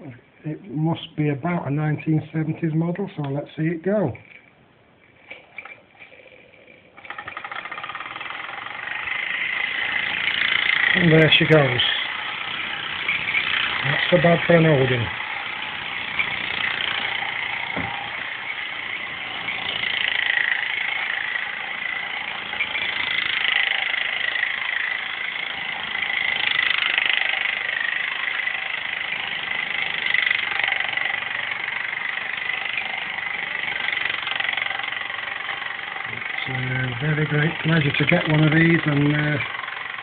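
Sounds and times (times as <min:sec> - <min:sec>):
small steam engine hissing: 0:05.3 - 0:40.0.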